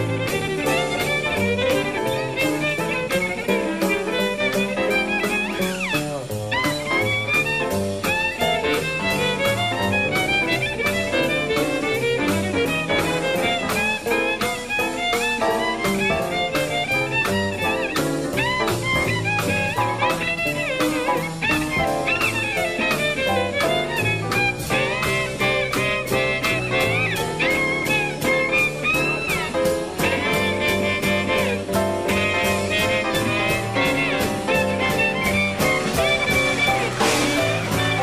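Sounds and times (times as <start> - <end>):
double bass: 0.0 - 38.0
drums on cymbals: 0.0 - 38.0
jazz violin solo: 0.0 - 38.0
piano: 0.0 - 38.0.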